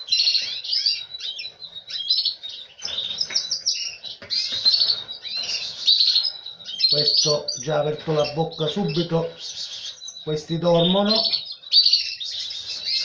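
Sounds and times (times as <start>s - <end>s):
canaries chirping and trilling: 0.0s - 13.0s.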